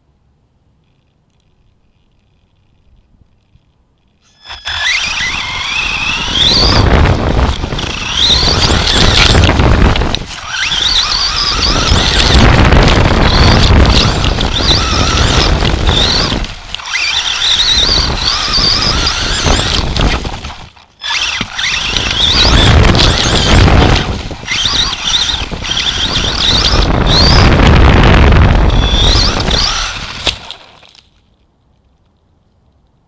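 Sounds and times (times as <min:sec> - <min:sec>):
rumble and buffeting on camera: 0:00.0 - 0:33.0
high motor whine: 0:04.2 - 0:30.8.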